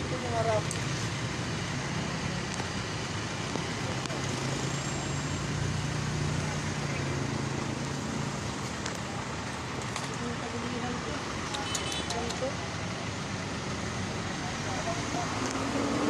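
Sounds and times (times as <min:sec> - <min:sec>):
roadside traffic engine hum: 0:00.0 - 0:16.0.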